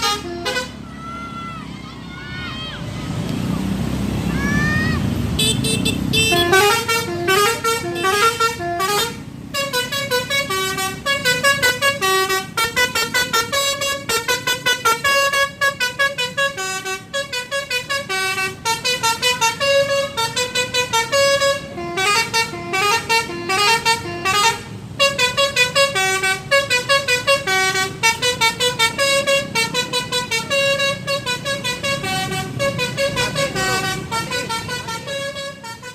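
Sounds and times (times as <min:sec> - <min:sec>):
multi-tone bus horn melody: 0:00.0 - 0:01.3, 0:05.4 - 0:35.9.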